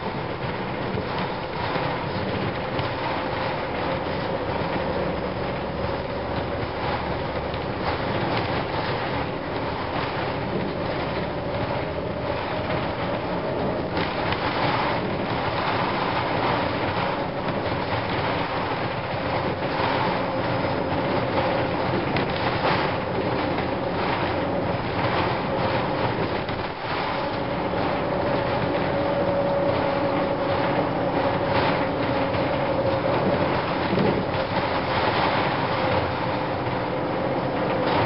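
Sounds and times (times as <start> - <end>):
diesel bus engine running: 0.0 - 38.0
road rumble: 0.0 - 38.0.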